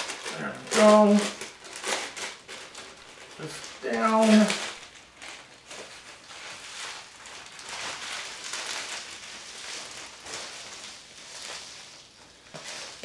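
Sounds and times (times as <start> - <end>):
foil sunshade crinkling: 0.0 - 13.0.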